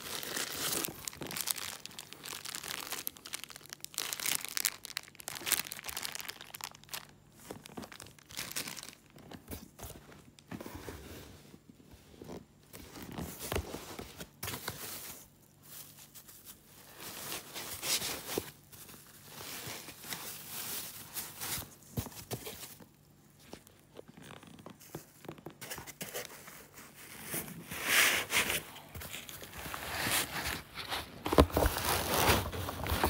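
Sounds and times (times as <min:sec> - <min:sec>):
plastic wrap and foam crinkling: 0:00.0 - 0:10.6, 0:12.2 - 0:33.0.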